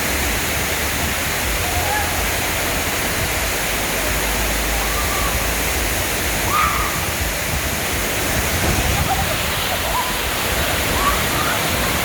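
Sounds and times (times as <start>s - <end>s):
water rushing down slide: 0.0s - 12.0s.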